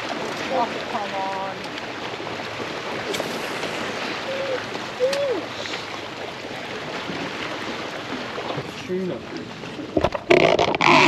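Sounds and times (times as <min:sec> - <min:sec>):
rushing water and wind: 0:00.0 - 0:11.0.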